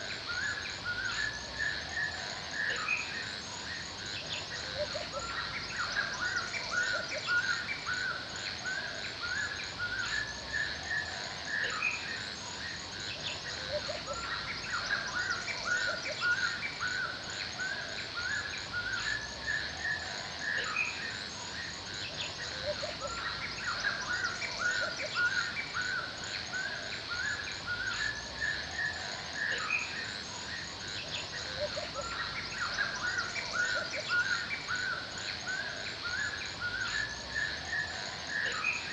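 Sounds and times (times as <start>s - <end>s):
birds singing and chirping: 0.0s - 38.9s
insects pulsing chorus: 0.0s - 38.9s.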